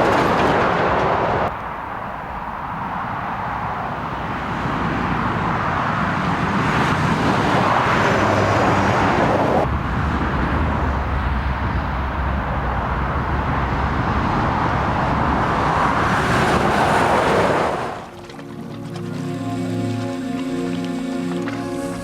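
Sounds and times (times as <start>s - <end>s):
lorries passing on motorway: 0.0s - 22.0s.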